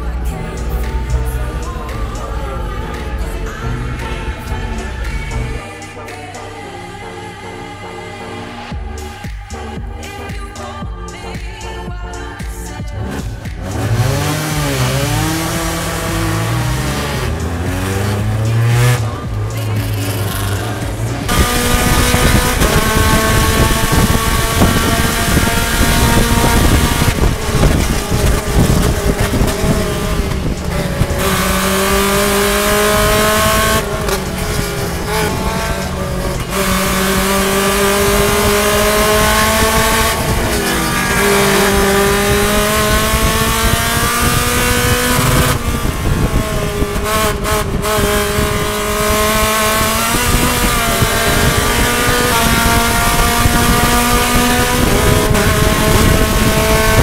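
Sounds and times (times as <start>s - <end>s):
race car engine revving: 0.0s - 57.0s
wind and road noise: 11.2s - 57.0s.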